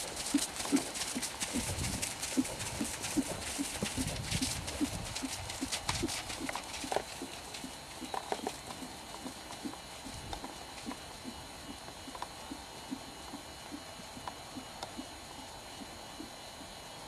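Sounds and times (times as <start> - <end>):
horse hoofbeats trotting: 0.0 - 16.8.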